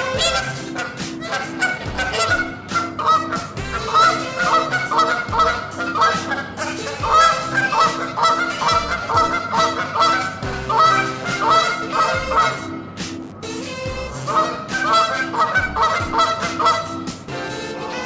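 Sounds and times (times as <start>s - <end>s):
geese honking: 0.0s - 12.9s, 13.9s - 18.0s
background music: 0.0s - 18.0s.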